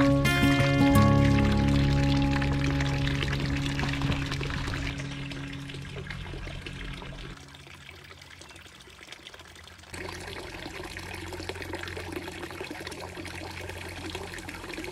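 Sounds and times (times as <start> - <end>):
water trickling into pond: 0.0 - 14.9.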